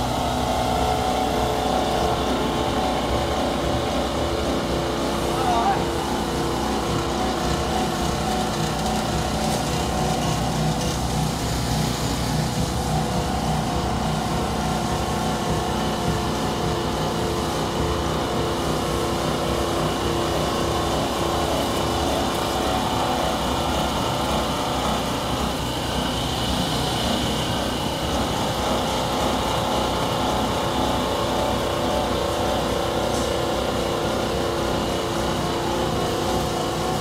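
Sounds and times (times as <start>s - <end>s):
polishing machine humming and whining: 0.0s - 37.0s.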